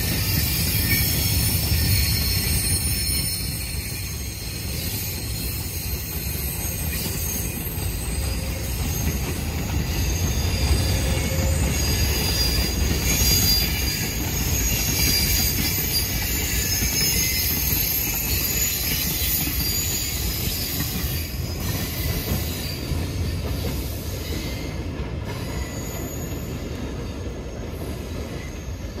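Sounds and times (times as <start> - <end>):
high-pitched wheel squeal: 0.0 - 26.9
train wheels rumbling on rails: 0.0 - 29.0.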